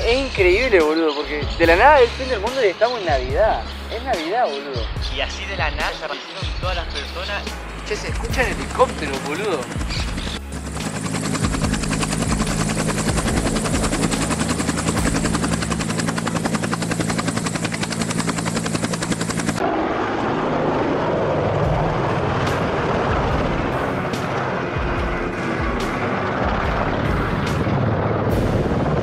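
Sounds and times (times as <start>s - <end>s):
helicopter rotor chop and engine: 0.0s - 5.9s, 6.5s - 29.0s.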